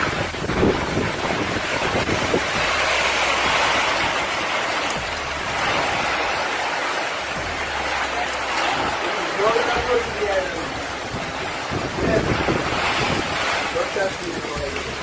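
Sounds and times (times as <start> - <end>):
hurricane wind rushing: 0.0 - 15.0
wind buffeting microphone: 0.0 - 15.0.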